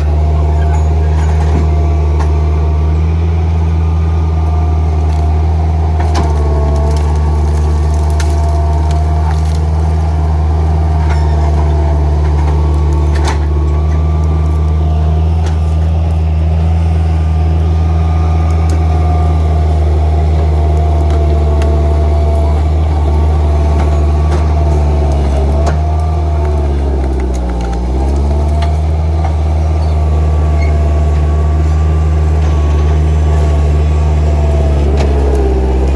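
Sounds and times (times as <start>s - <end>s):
skid steer engine humming: 0.0s - 35.9s.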